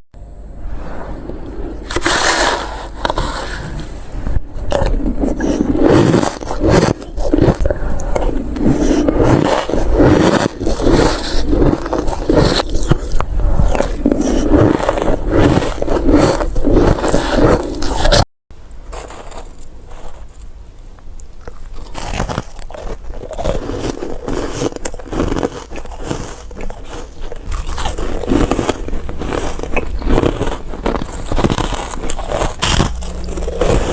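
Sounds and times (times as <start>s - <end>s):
person crunching ice: 1.7s - 18.2s, 18.9s - 20.4s, 21.4s - 33.9s.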